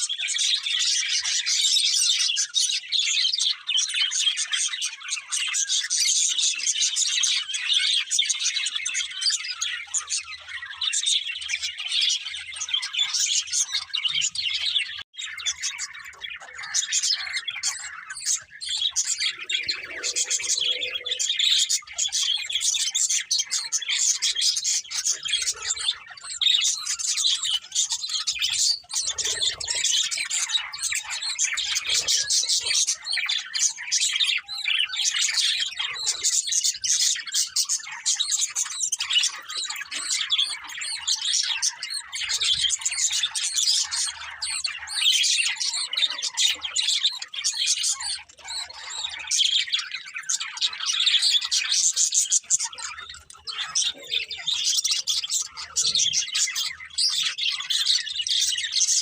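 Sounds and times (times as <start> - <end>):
budgerigars chattering: 0.0 - 59.0.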